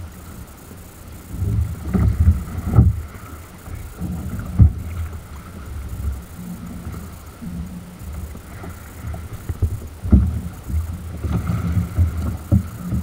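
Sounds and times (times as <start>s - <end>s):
choppy sea slapping hull: 0.0s - 13.0s.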